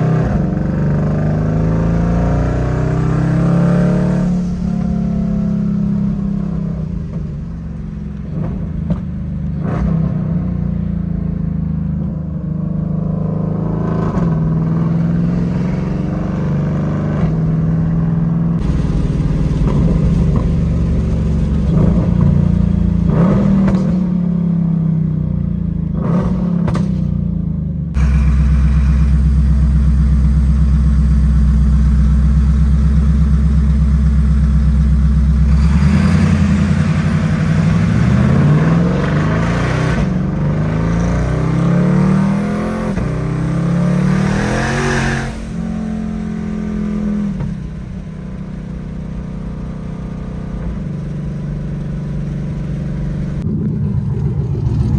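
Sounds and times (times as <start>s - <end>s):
sports car engine revving: 0.0s - 27.2s, 28.0s - 54.9s.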